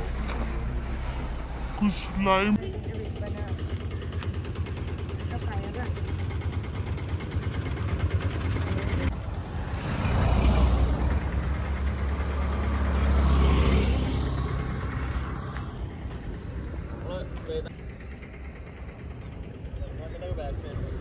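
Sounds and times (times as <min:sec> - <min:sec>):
vehicle passing: 0:00.0 - 0:19.1
low traffic rumble: 0:00.0 - 0:21.0.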